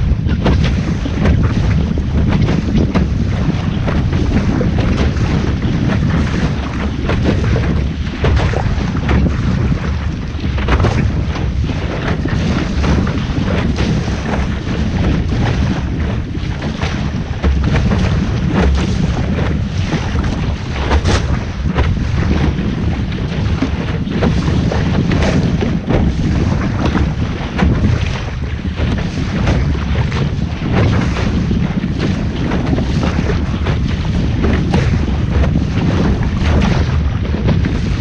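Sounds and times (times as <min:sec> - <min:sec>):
water rushing and splashing: 0:00.0 - 0:38.0
wind buffeting microphone: 0:00.0 - 0:38.0.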